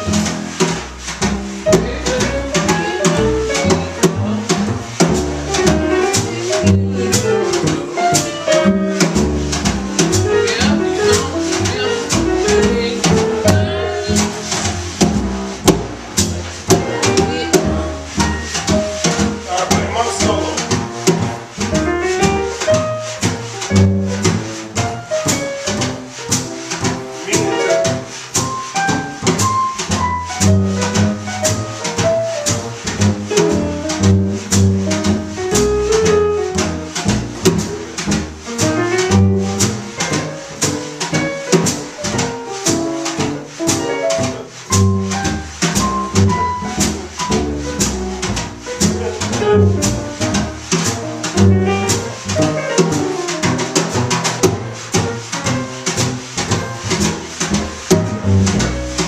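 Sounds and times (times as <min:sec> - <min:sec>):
digital piano melody: 0:00.0 - 0:59.0
drum kit cymbals: 0:00.0 - 0:59.0
walking bass line: 0:00.0 - 0:59.0.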